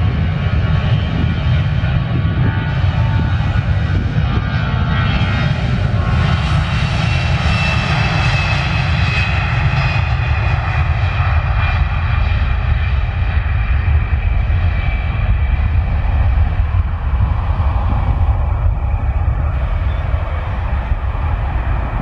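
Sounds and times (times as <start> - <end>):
jet engines at takeoff power: 0.0 - 22.0.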